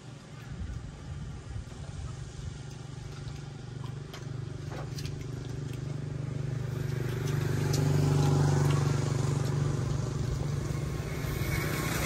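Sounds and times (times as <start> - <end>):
vehicle engine running: 1.9 - 12.0.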